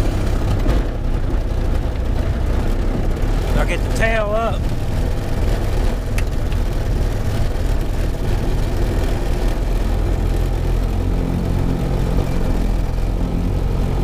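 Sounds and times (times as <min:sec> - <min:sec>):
wash of noise: 0:00.0 - 0:14.0
aircraft engine idling: 0:01.4 - 0:14.0.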